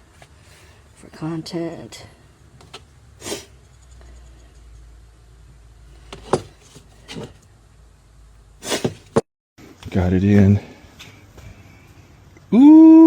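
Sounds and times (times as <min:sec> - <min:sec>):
faint low hum: 0:00.0 - 0:12.5.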